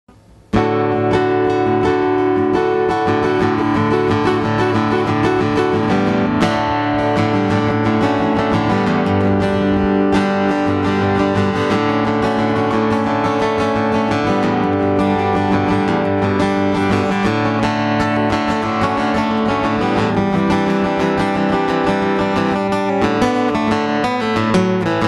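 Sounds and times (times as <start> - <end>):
acoustic guitar playing: 0.1 - 25.0.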